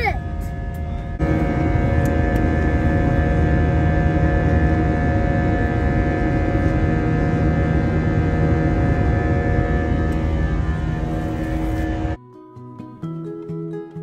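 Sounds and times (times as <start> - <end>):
plane engine drone in cabin: 0.0 - 12.2.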